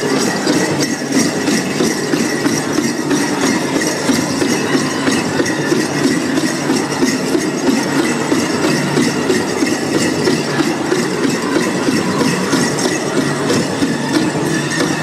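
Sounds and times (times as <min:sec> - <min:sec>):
powwow drumming and singing: 0:00.0 - 0:15.0.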